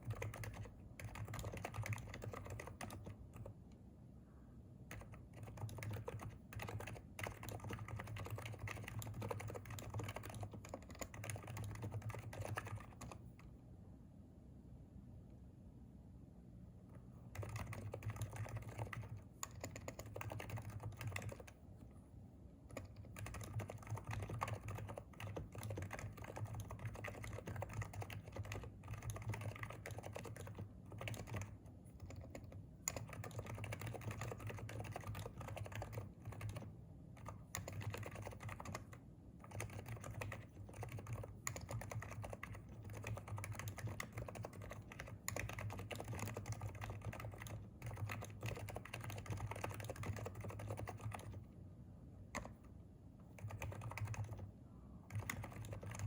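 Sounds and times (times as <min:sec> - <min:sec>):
fast keyboard typing: 0:00.0 - 0:03.6, 0:04.9 - 0:13.4, 0:17.3 - 0:21.6, 0:22.7 - 0:51.5, 0:52.3 - 0:52.7, 0:53.3 - 0:56.0.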